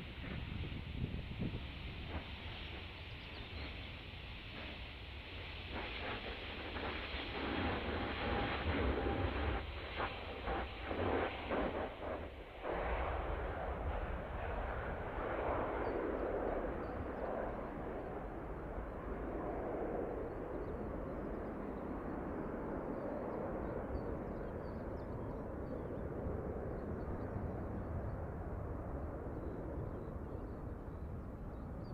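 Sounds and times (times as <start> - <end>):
jet airliner roar: 0.0 - 31.9.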